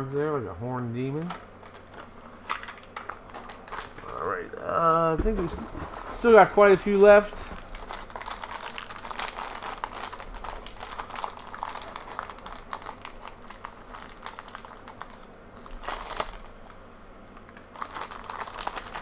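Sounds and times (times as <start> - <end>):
foil pack crinkling: 1.0 - 4.3, 5.3 - 16.8, 17.4 - 19.0.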